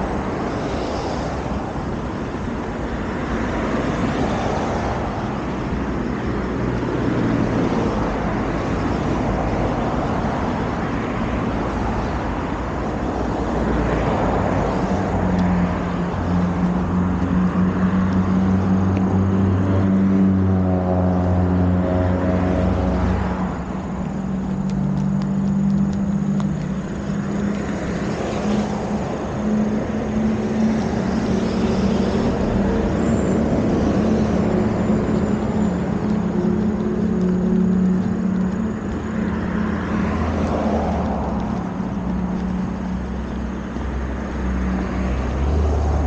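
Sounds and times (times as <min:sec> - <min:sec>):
low engine hum: 0:00.0 - 0:46.0
passing cars: 0:00.0 - 0:46.0.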